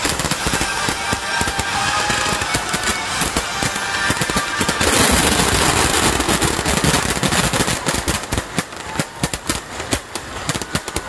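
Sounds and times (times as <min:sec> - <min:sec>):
fireworks booming: 0:00.0 - 0:11.0
fireworks crackling pops: 0:00.0 - 0:11.0.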